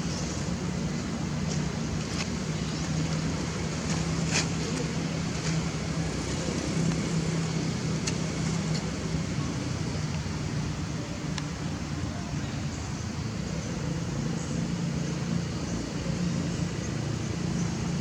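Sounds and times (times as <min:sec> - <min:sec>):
continuous low hum: 0:00.0 - 0:18.0.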